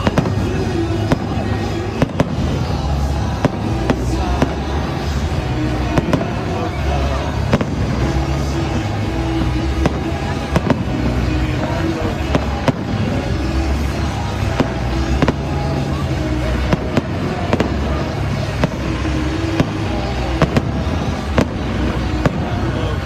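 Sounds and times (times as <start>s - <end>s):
fireworks bangs: 0.0s - 23.0s
loud music: 0.0s - 23.0s.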